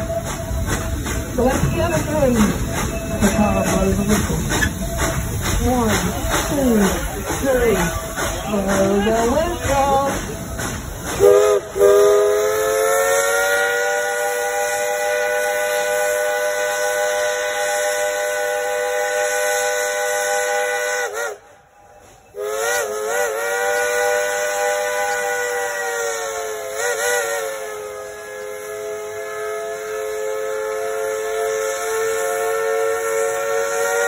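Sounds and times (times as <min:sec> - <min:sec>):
steam whistle blowing: 0:00.0 - 0:06.0, 0:07.6 - 0:34.0.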